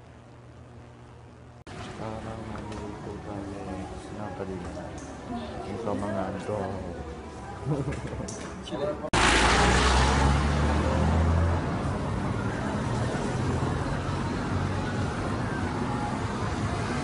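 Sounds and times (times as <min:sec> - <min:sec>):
street traffic noise: 0:01.7 - 0:17.0.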